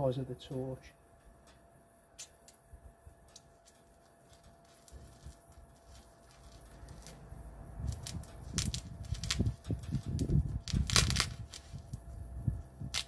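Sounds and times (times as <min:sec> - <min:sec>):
gas torch rumbling: 0:00.8 - 0:13.0
torch flame crackles: 0:01.4 - 0:13.0.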